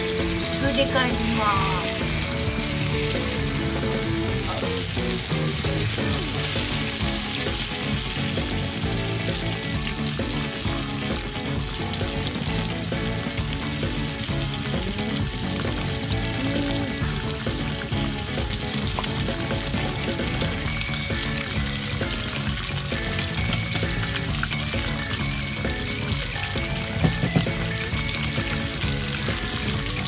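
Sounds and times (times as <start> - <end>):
oil sizzling in a frying pan: 0.0 - 30.0.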